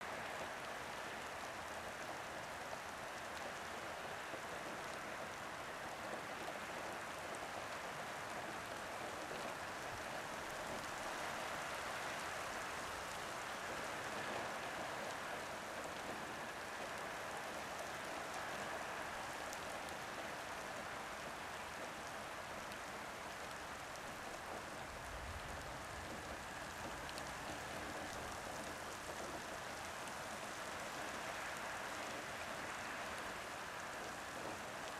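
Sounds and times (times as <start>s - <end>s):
soft rain on street and roof: 0.0s - 34.9s.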